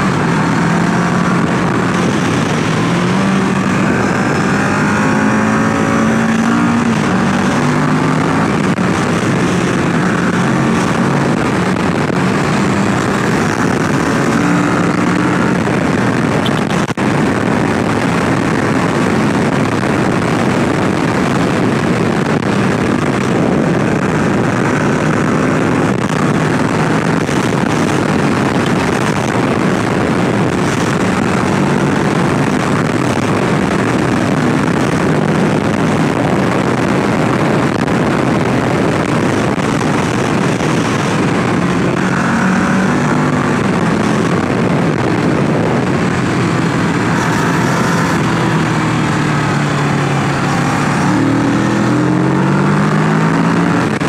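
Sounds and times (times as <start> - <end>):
motorcycle engine running: 0.0 - 54.0
wind rushing on microphone: 0.0 - 54.0.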